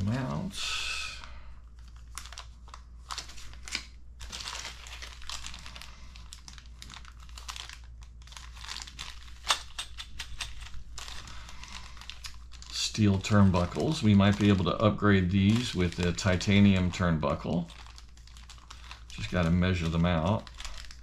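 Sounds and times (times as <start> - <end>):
plastic bags crinkling: 1.1 - 21.0.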